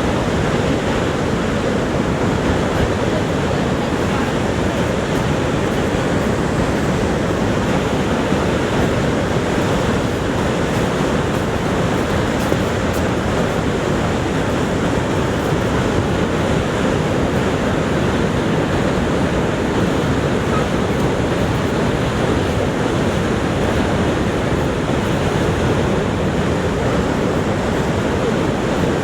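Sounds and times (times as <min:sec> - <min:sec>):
waterfall rushing: 0:00.1 - 0:29.0.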